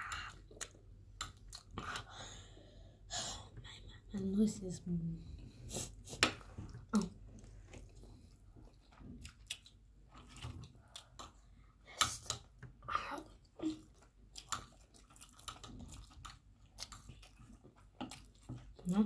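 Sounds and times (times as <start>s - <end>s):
people chewing food: 0.0s - 4.2s, 5.4s - 19.0s.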